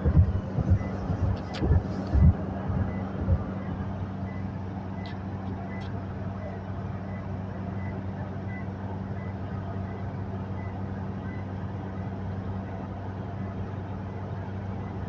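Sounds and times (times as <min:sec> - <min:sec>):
diesel engine drone in cabin: 0:00.0 - 0:15.0.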